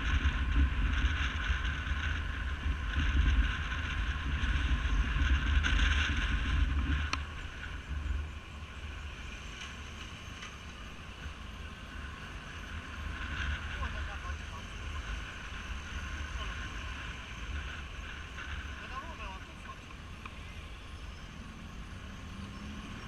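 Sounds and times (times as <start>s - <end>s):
wind buffeting microphone: 0.0s - 20.8s
motorcycle engine and road noise: 0.0s - 23.0s.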